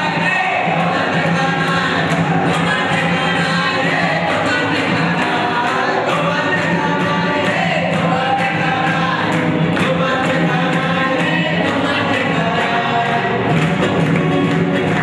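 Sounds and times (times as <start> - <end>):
voices singing in chorus: 0.0 - 15.0.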